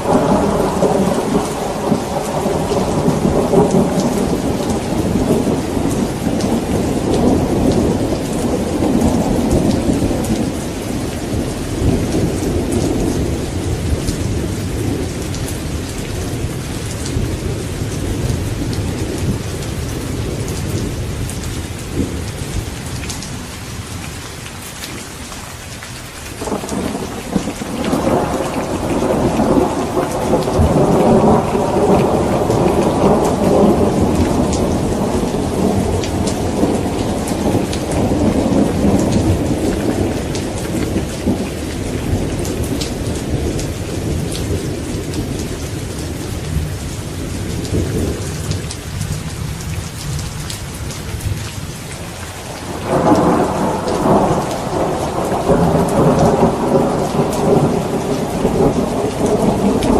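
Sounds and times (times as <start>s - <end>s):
rolling thunder: 0.0s - 23.0s, 26.4s - 59.9s
heavy rain: 0.0s - 59.9s.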